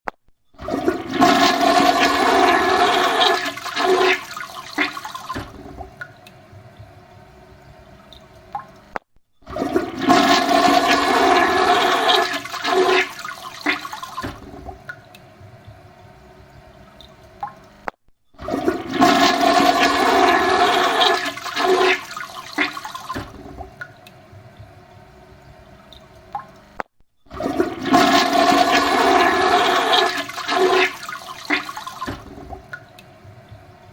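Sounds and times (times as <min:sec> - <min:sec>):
toilet flushing: 0:00.6 - 0:08.9, 0:09.5 - 0:17.8, 0:18.4 - 0:33.9
water running: 0:00.6 - 0:08.9, 0:09.5 - 0:17.8, 0:18.4 - 0:33.9.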